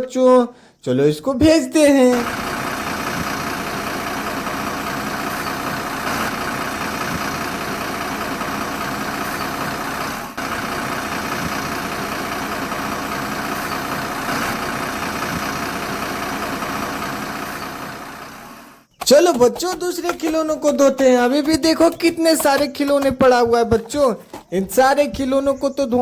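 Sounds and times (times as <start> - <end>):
truck engine idling: 2.1 - 26.0.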